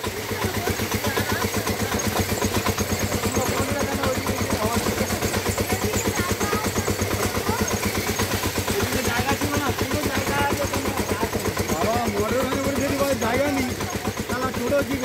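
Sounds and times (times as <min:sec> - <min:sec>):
engine chugging: 0:00.0 - 0:15.0.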